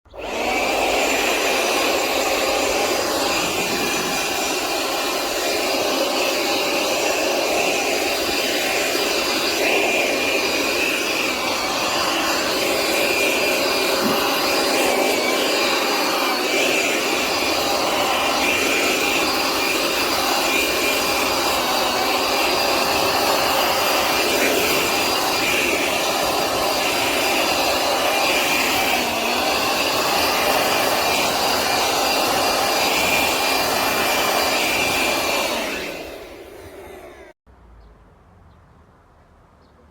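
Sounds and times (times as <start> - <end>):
high motor whine: 0.1 - 37.4
leaf blower rushing air: 0.1 - 37.4.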